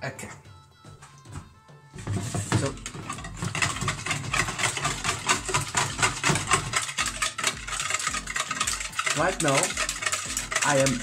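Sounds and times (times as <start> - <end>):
batter beaten in bowl: 2.0 - 11.0.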